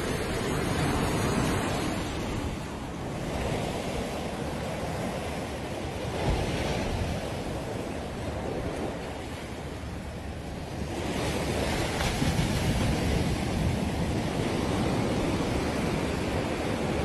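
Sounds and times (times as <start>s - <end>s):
sea surf on a sandy beach: 0.0s - 17.0s
wind on microphone: 0.0s - 17.0s.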